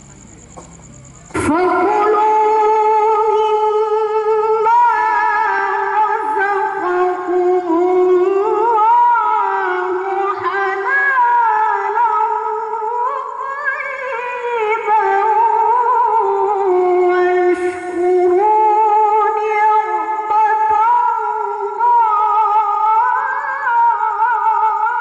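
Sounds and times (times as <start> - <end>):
woman reciting melodically: 1.3 - 25.0.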